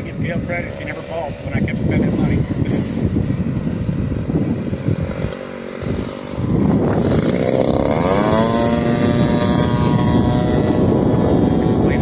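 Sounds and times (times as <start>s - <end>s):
model aircraft engine running: 0.0s - 12.0s.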